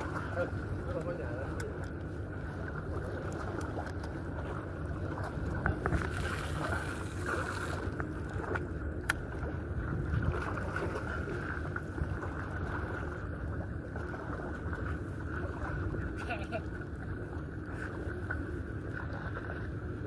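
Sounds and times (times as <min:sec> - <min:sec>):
harbour water sounds: 0:00.0 - 0:20.0
wind on microphone: 0:01.4 - 0:20.0.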